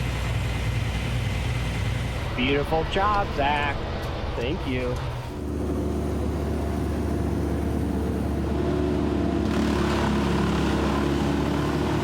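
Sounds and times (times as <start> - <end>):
large engine running: 0.0 - 12.0.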